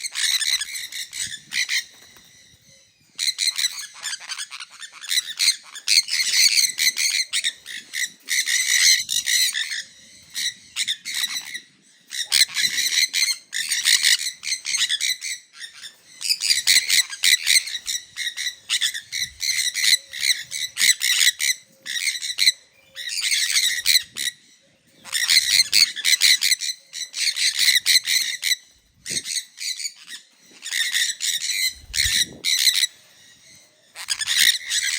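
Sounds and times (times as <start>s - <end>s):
parrots screeching: 0.0s - 2.5s, 3.2s - 34.9s.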